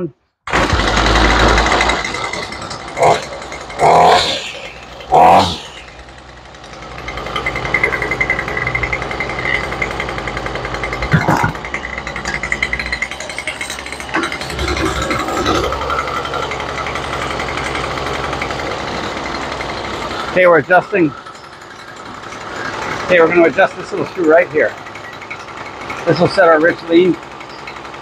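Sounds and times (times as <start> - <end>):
string trimmer engine running: 0.5 - 28.0.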